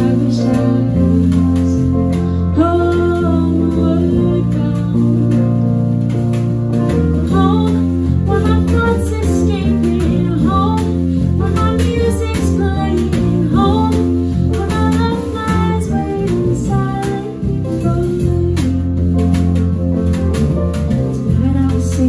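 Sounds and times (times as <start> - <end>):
woman singing: 0.0 - 6.1, 6.9 - 19.4, 20.8 - 22.0
drums played with brushes: 0.0 - 22.0
electric bass: 0.0 - 22.0
piano: 0.0 - 22.0.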